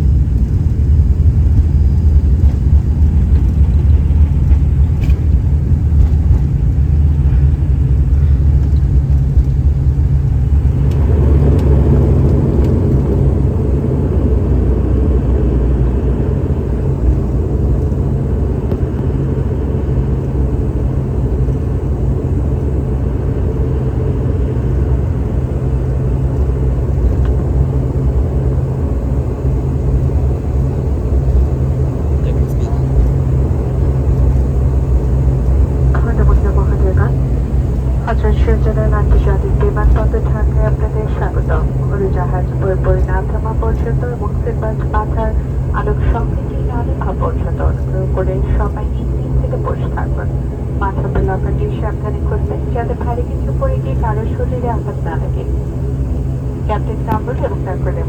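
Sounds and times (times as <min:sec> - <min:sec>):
low rumble of engines and airflow: 0:00.0 - 0:58.0.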